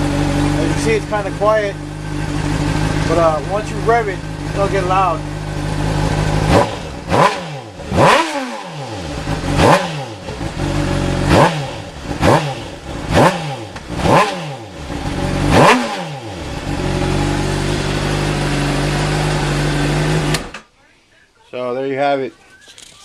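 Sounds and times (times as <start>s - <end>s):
motorcycle engine idling: 0.0s - 20.3s
motorcycle engine revving: 0.0s - 20.6s.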